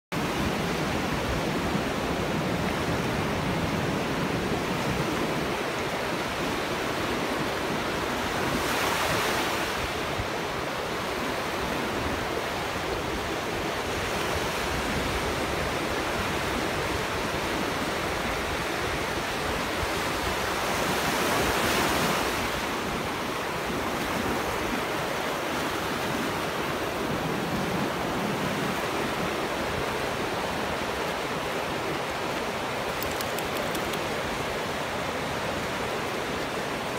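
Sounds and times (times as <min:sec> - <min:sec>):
waves breaking on beach: 0:00.2 - 0:36.9.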